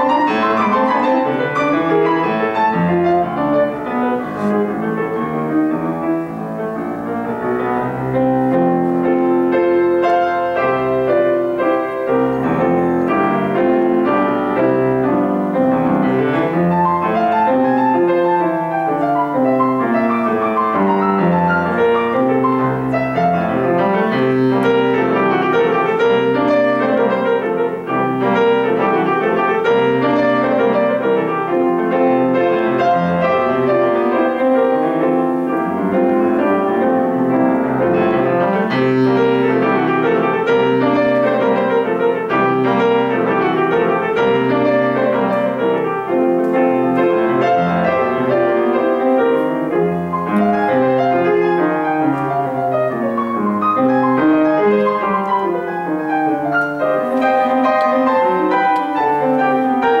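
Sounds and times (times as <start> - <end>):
grand piano playing: 0.0 - 60.0.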